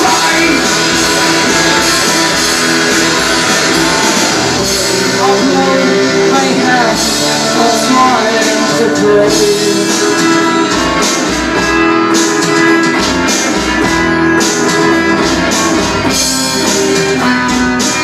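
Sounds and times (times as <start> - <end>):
pulsing bass line: 0.0 - 18.0
rock guitar: 0.0 - 18.0.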